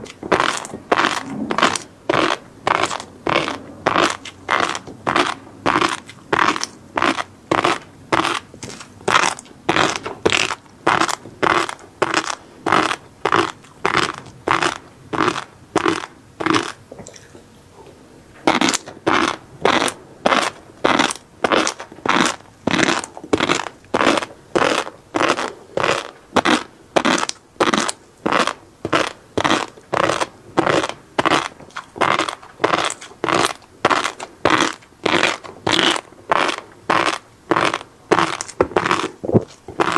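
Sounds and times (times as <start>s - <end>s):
chewing fish roe: 0.0s - 39.9s.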